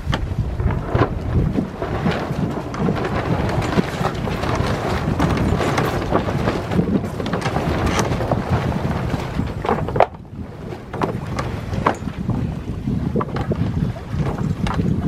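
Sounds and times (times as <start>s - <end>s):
boat moving through water: 0.0s - 15.0s
wind buffeting microphone: 0.0s - 15.0s.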